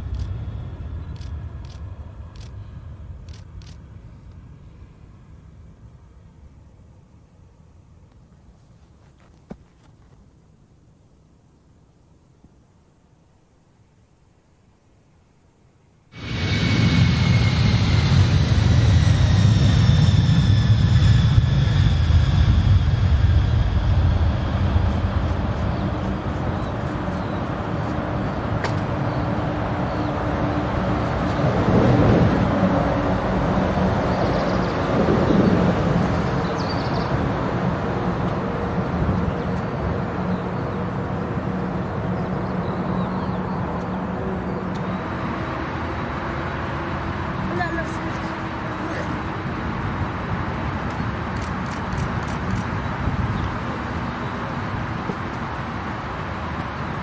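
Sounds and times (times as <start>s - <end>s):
jet engines roaring: 0.0s - 6.2s, 16.1s - 57.0s
high jet engine whines: 0.0s - 8.1s, 16.1s - 57.0s.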